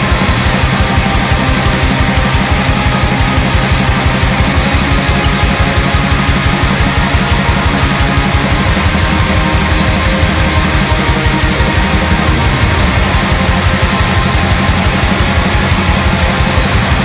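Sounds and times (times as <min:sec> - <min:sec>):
distorted electric guitars: 0:00.0 - 0:17.0
fast steady drumming: 0:00.0 - 0:17.0.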